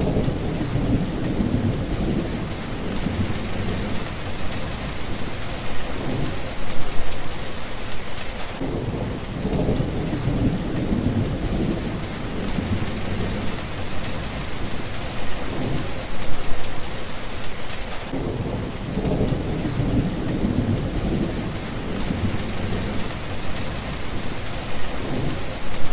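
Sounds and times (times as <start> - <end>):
thunder rumbling: 0.0 - 6.6, 8.6 - 16.1, 18.1 - 25.9
heavy rain pouring: 0.0 - 25.9.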